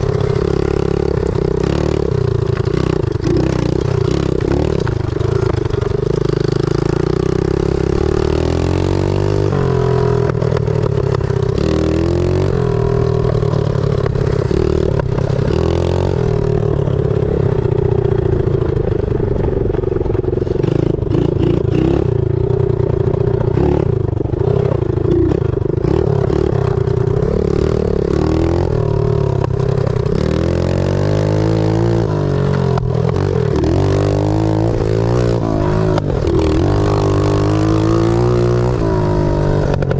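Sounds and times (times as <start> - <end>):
pit bike engine revving: 0.0 - 18.8, 19.9 - 39.9.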